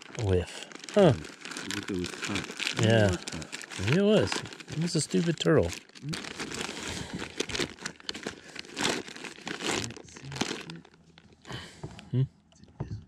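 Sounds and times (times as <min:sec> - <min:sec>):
plastic packets crinkling: 0:00.0 - 0:11.6.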